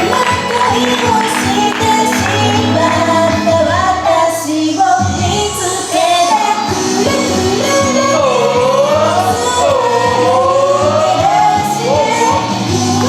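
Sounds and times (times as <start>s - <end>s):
woman singing pop song: 0.0s - 13.0s.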